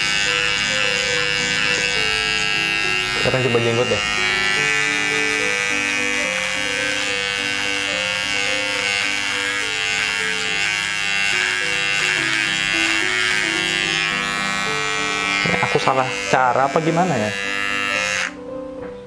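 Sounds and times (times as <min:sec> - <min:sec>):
hair trimmer motor buzzing: 0:00.0 - 0:18.4.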